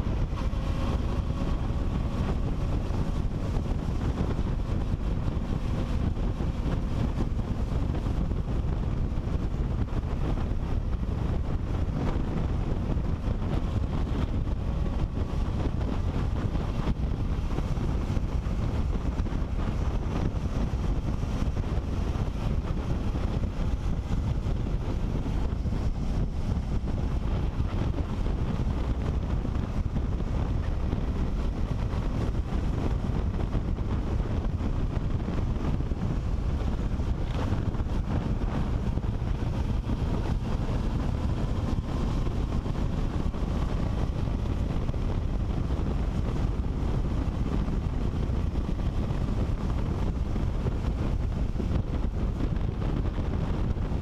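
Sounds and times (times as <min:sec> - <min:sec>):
motorcycle engine running: 0:00.0 - 0:54.0
wind rushing on microphone: 0:00.0 - 0:54.0.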